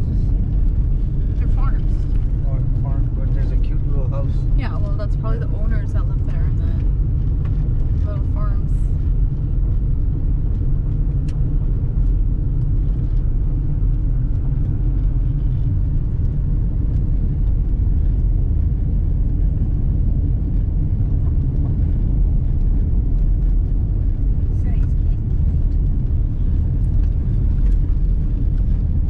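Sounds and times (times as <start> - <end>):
tyres and engine rumbling on gravel: 0.0 - 29.0.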